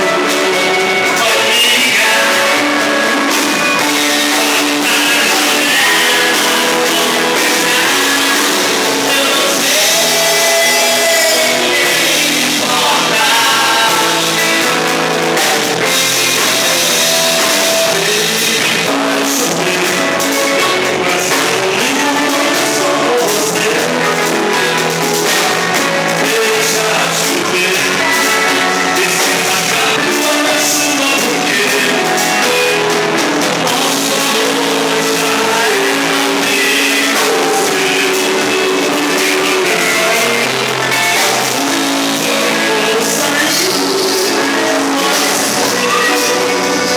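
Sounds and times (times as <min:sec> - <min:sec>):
drum kit: 0:00.0 - 0:46.9
electric guitar: 0:00.0 - 0:46.9
person singing: 0:00.0 - 0:46.9.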